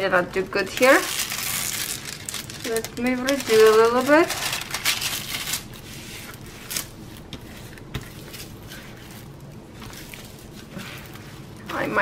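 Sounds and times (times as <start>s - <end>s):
plastic film rustling and rubbing: 0.7s - 12.0s.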